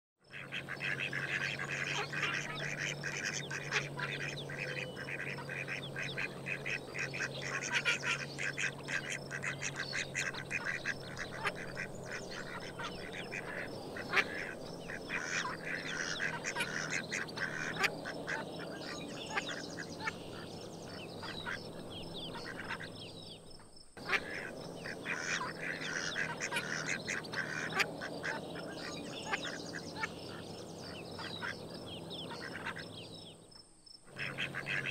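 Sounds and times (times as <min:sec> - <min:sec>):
ducks quacking: 0:00.3 - 0:23.0, 0:24.0 - 0:33.1, 0:34.1 - 0:34.9.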